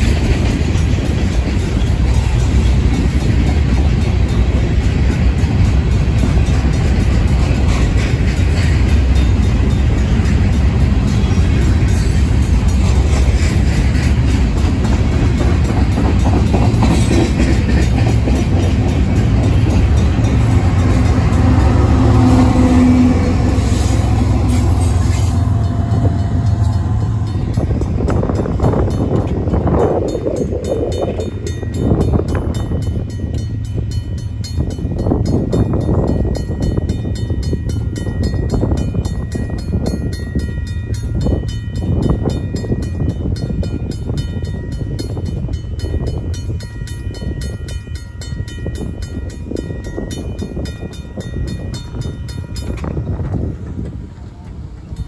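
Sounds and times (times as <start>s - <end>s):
crossing bell ringing rapidly: 0.0s - 53.5s.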